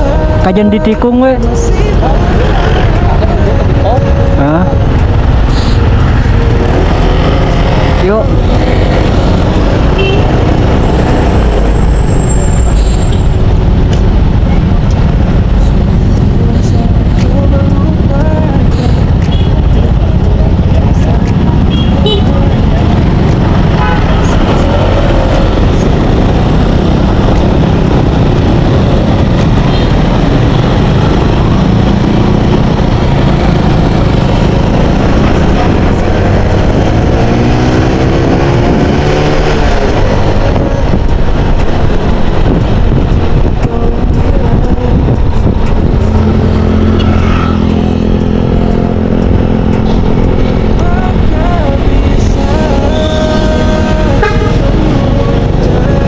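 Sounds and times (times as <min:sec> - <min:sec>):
ambulance engine and road noise: 0:00.0 - 0:56.0.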